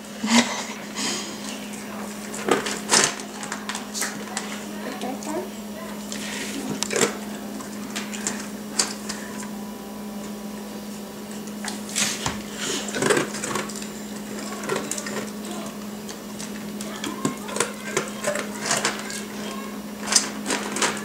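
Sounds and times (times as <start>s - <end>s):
steady low hum: 0.0s - 21.0s
dog crunching kibble: 1.6s - 9.5s, 11.6s - 21.0s.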